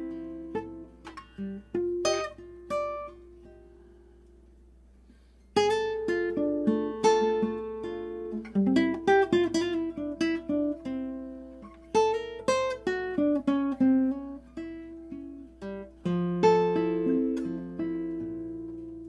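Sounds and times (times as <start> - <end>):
classical guitar fingerstyle: 0.0 - 19.0.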